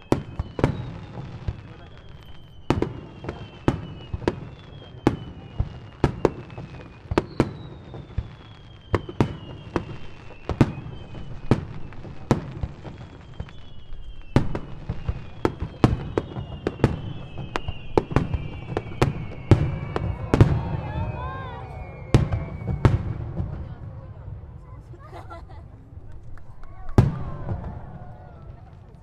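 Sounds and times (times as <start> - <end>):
firework whistles: 0.0 - 23.8.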